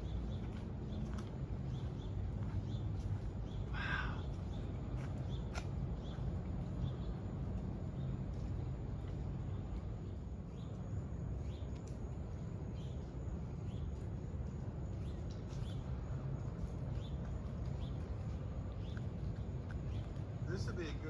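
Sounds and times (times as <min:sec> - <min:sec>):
birds chirping: 0:00.0 - 0:21.0
steady low rumble: 0:00.0 - 0:21.0.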